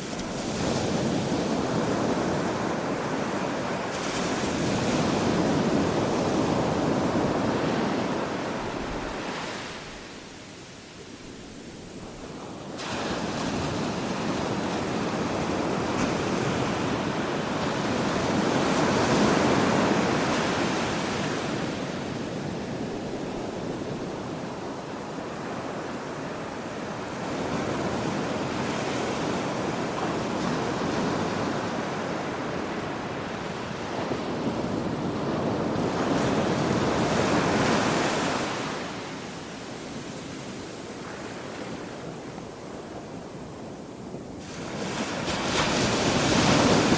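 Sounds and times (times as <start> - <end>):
waves breaking on shore: 0.0 - 10.4, 11.9 - 46.9.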